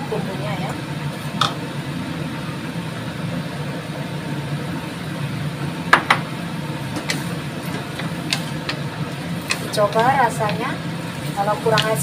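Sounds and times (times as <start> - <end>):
vegetables cooking in a wok: 0.0 - 12.0.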